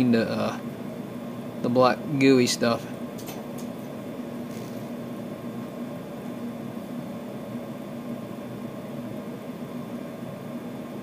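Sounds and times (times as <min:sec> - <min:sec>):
constant hiss of equipment: 0:00.0 - 0:11.0
low electrical hum: 0:00.0 - 0:11.0.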